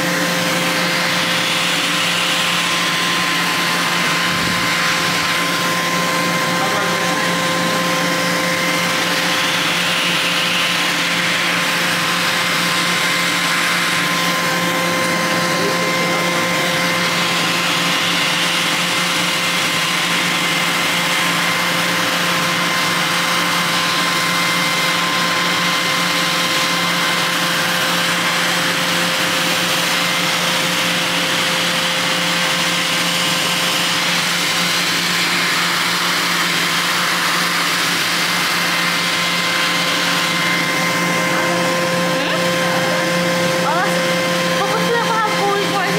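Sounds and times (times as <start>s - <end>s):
constant high whine: 0.0s - 45.9s
machine whirring: 0.0s - 45.9s.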